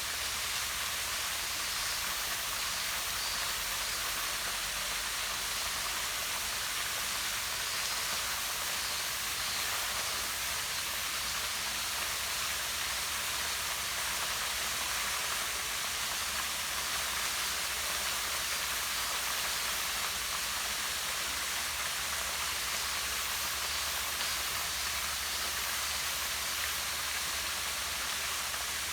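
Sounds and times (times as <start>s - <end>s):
waterfall pouring into pond: 0.0s - 28.9s.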